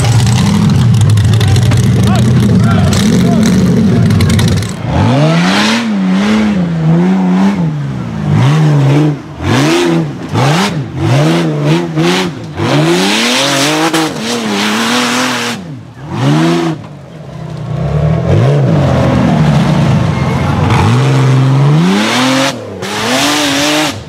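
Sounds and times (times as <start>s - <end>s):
buggy engine revving hard: 0.0s - 17.0s, 17.6s - 24.0s.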